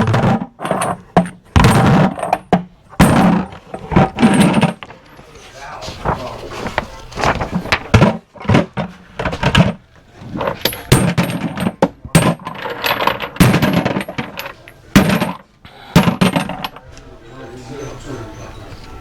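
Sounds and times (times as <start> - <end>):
small metal objects clattering: 0.0 - 6.2, 7.1 - 16.8.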